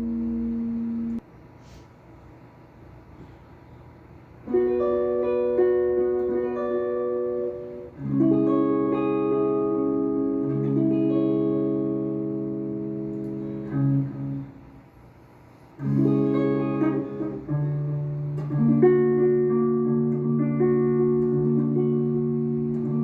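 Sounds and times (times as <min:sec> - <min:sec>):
guitar chords ringing: 0:00.0 - 0:01.2, 0:04.4 - 0:14.8, 0:15.8 - 0:23.0.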